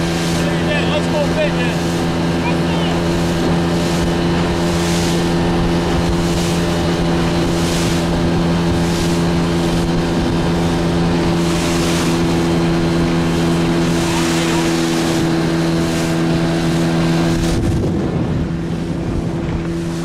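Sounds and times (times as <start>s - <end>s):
motorboat engine humming: 0.0s - 20.0s
water rushing against hull: 0.0s - 20.0s
wind: 0.0s - 20.0s.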